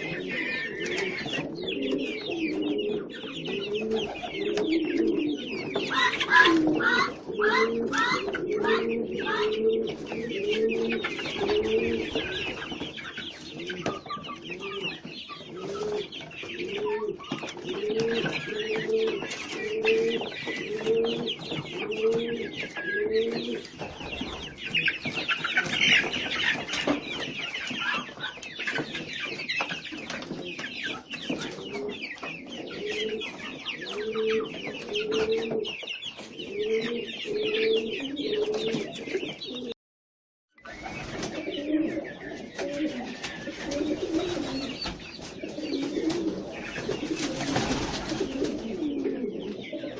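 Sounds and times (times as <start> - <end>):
small birds chirping: 0.0 - 39.7, 40.6 - 49.9
pigeons cooing: 0.0 - 39.8, 40.6 - 49.9.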